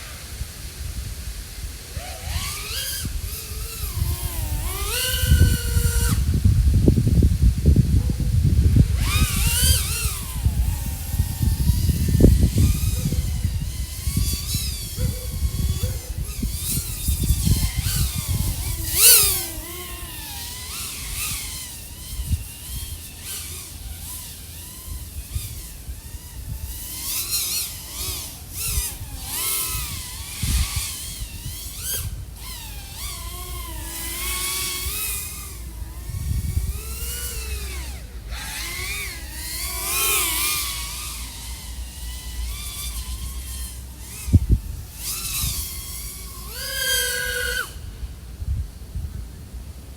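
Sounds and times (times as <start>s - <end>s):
drone motors whining: 0.0s - 49.9s
wind buffeting microphone: 0.0s - 49.9s.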